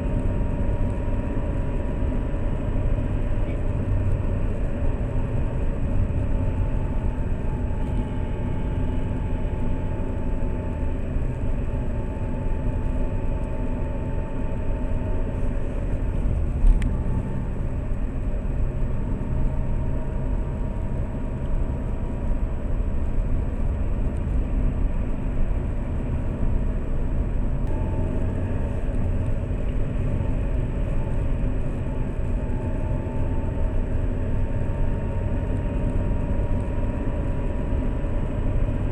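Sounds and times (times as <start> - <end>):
car road and engine rumble: 0.0 - 38.9
faint whine: 0.0 - 38.9.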